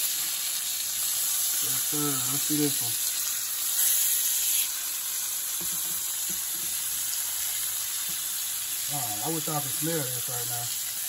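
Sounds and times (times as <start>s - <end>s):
fish frying sizzle: 0.0s - 11.0s.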